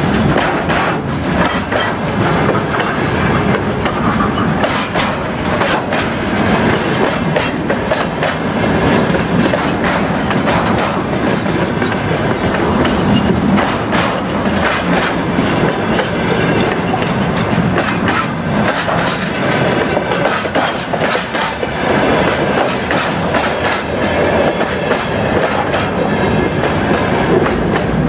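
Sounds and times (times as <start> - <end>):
train wheels clattering on rails: 0.0 - 28.0.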